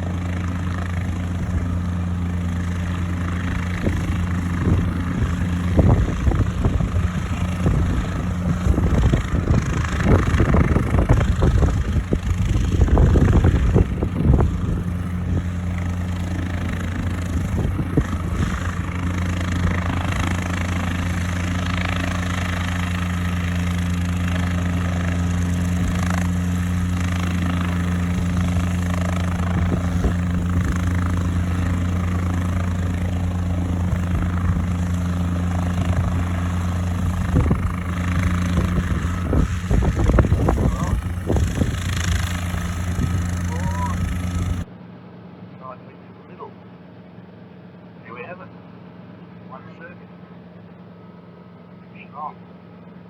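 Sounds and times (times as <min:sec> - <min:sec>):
helicopter engine and rotors humming: 0:00.0 - 0:53.0.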